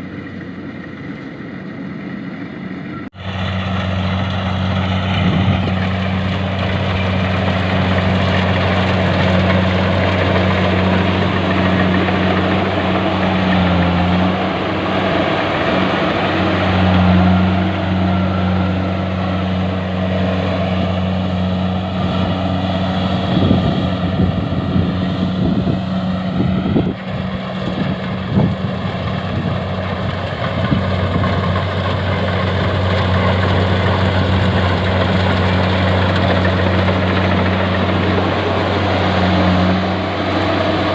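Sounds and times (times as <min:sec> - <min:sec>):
harvester engine humming: 0:00.0 - 0:40.9.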